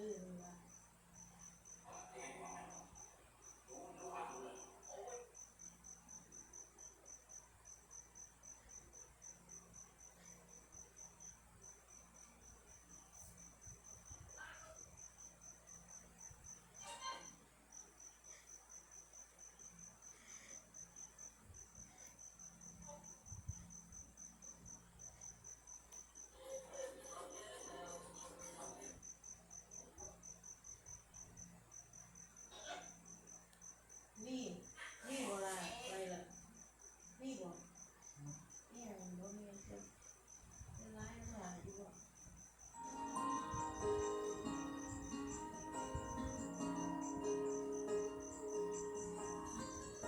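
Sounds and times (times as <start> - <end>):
cricket chirping: 0.0 - 50.0.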